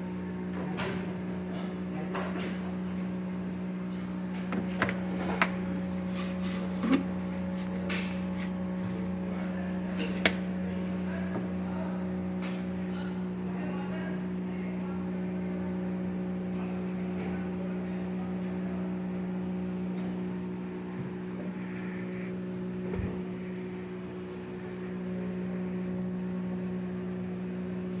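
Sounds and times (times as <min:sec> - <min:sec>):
freezer humming: 0:00.0 - 0:28.0.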